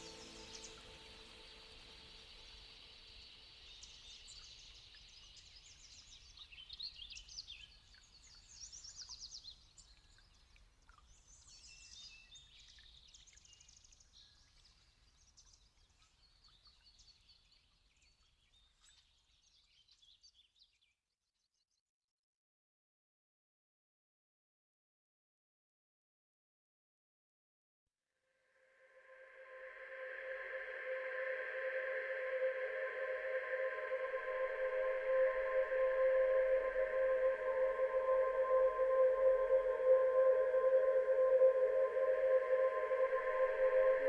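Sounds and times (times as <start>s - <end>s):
faint birdsong: 0.0s - 20.8s, 29.0s - 44.0s.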